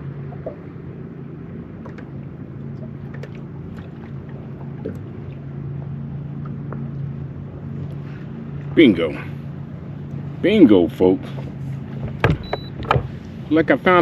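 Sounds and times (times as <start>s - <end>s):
boat motor humming: 0.0s - 14.0s
water splashes: 0.0s - 14.0s.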